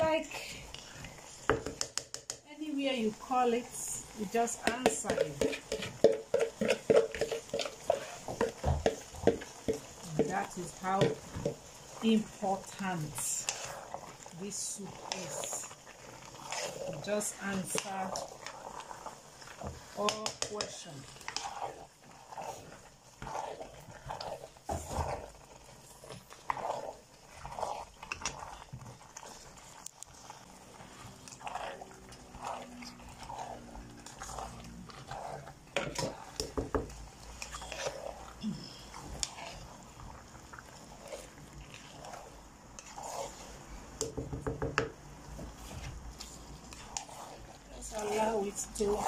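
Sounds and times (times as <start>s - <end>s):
spoon stirring thick soup: 0.1s - 49.0s.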